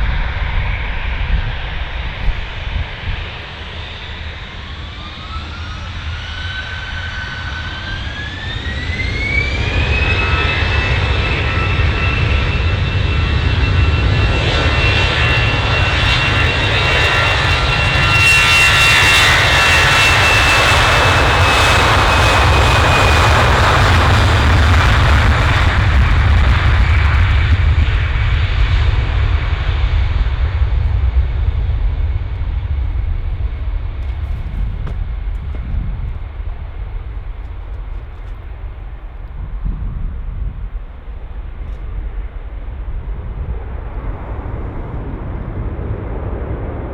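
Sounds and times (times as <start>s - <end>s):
jet engine roar: 0.0s - 46.9s
jet engines spooling up: 0.0s - 46.9s.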